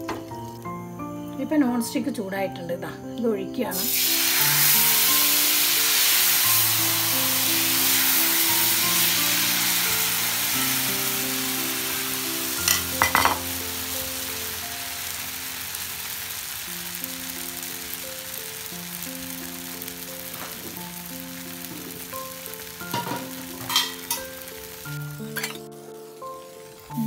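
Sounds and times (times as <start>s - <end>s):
soft background music: 0.0s - 27.0s
batter sizzling on hot pan: 3.7s - 27.0s.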